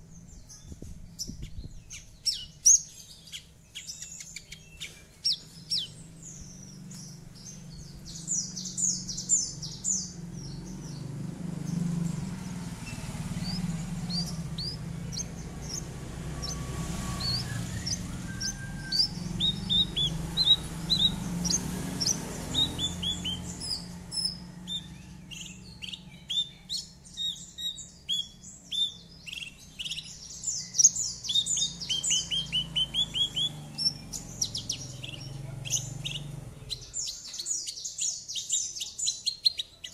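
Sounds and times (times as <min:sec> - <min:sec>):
bushlark singing chirps: 0:00.0 - 0:39.9.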